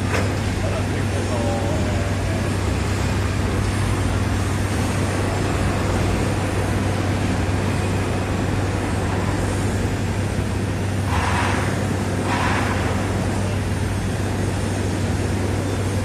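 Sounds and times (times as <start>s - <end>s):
excavator diesel engine humming: 0.0s - 16.0s
street traffic: 0.0s - 16.0s.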